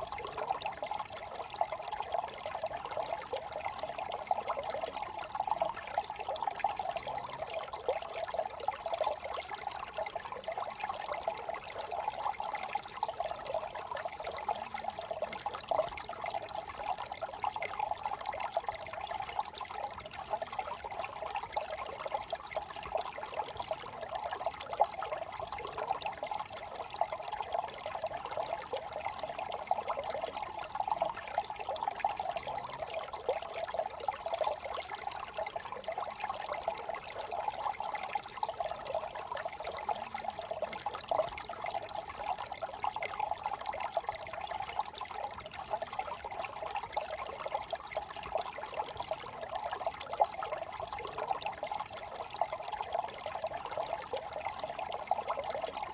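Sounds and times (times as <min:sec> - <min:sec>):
brook babbling over stones: 0:00.0 - 0:55.9.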